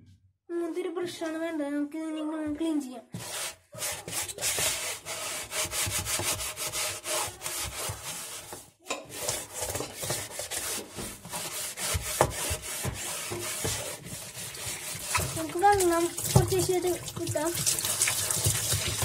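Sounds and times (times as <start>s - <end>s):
brush scrubbing: 3.2s - 19.0s.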